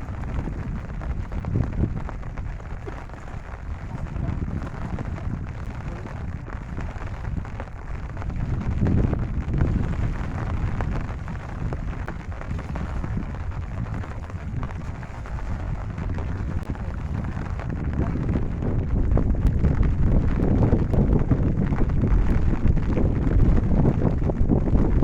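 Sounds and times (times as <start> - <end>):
deep continuous rumble: 0.0 - 25.0
rain pattering: 0.0 - 25.0.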